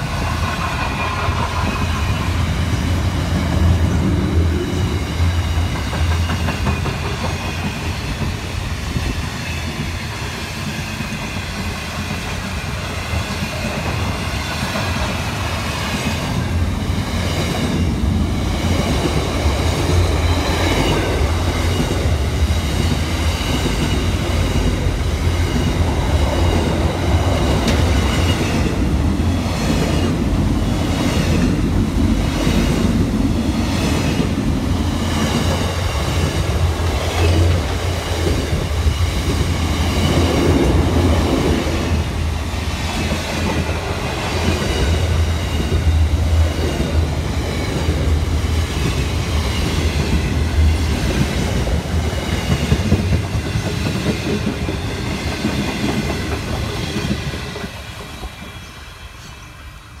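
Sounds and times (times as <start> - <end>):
train wagons rolling on rails: 0.0 - 60.0.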